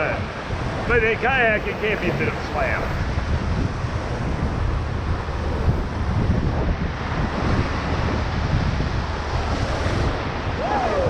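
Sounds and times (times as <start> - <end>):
whitewater rushing: 0.0 - 11.0
wind buffeting microphone: 0.0 - 11.0.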